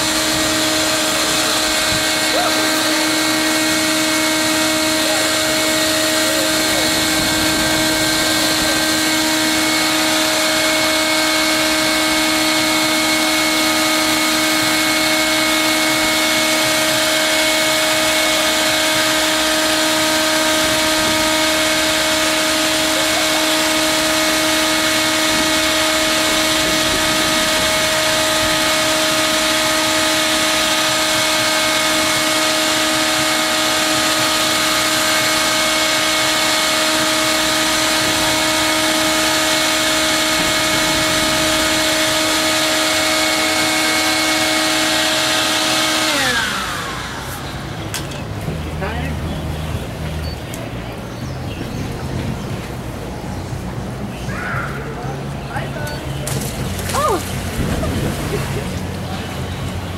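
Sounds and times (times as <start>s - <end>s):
electric air blower humming: 0.0s - 51.0s, 52.0s - 59.9s.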